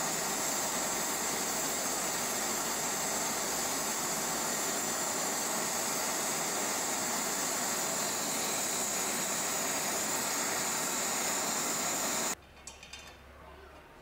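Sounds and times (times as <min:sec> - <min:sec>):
torch hissing: 0:00.0 - 0:12.4.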